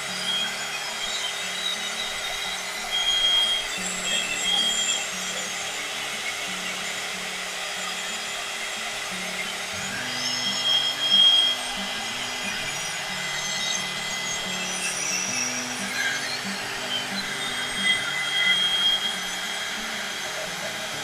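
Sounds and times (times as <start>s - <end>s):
heat gun blowing: 0.0s - 21.0s
slow background music: 0.0s - 21.0s.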